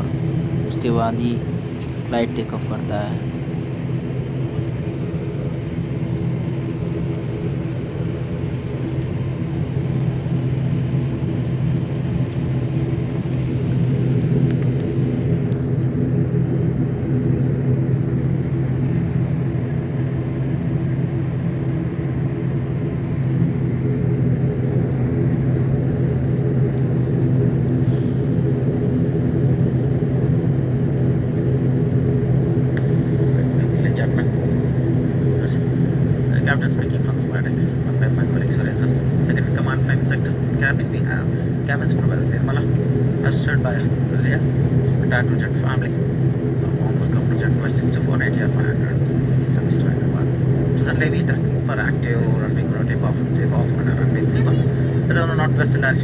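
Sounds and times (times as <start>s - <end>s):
turboprop engines droning: 0.0s - 56.0s.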